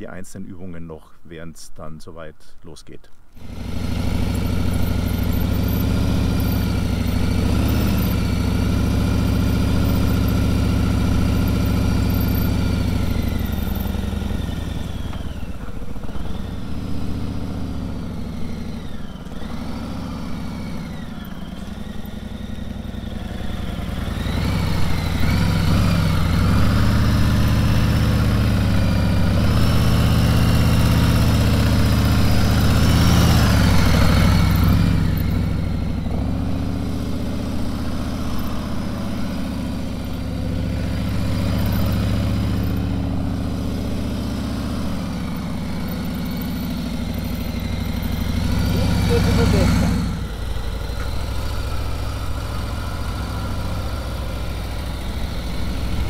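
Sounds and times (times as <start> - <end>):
motorcycle engine running: 3.4 - 56.0.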